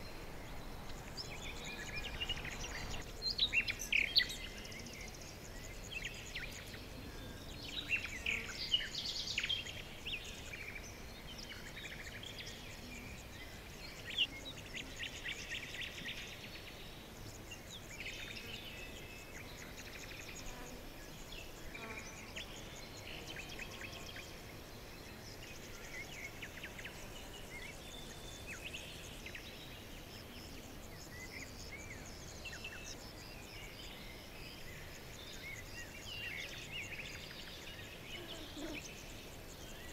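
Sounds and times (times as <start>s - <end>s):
faint background hiss: 0.0s - 39.9s
small birds chirping and trilling: 0.0s - 39.9s.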